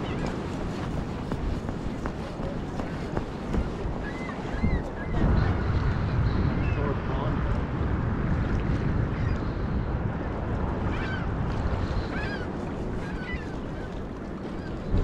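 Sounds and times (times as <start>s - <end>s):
waves washing against breakwall: 0.0s - 15.0s
wind buffeting microphone: 0.0s - 15.0s.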